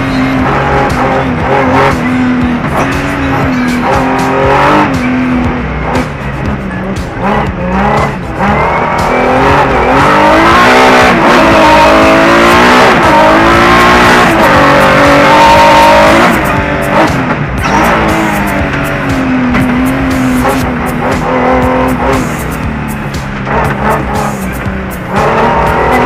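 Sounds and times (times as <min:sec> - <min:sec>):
car engine revving through gears: 0:00.0 - 0:26.0.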